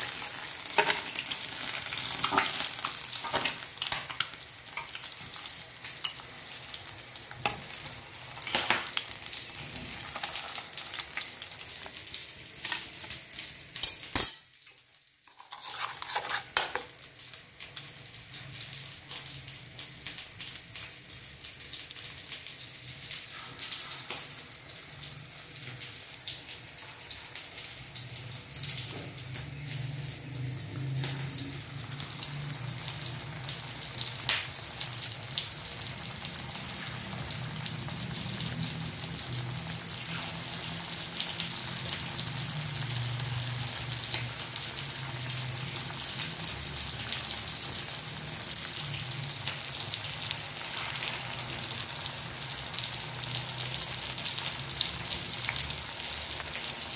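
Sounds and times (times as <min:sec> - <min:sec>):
deep-frying sizzle and crackles: 0:00.0 - 0:56.9.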